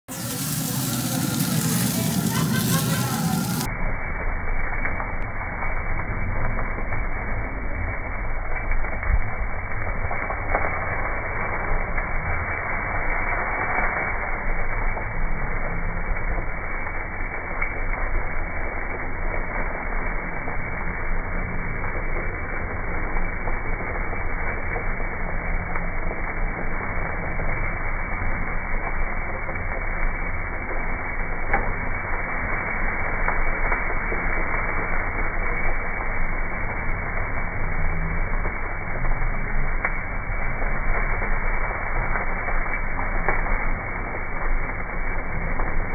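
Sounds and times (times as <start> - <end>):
meat sizzling on grill: 0.1 - 45.9.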